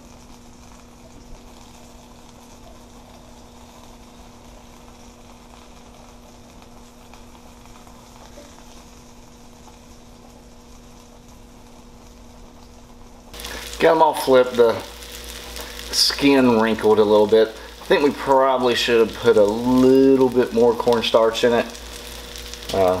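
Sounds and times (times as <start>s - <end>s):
potato cakes sizzling in a pan: 0.0s - 23.0s
steady low hum: 0.0s - 23.0s.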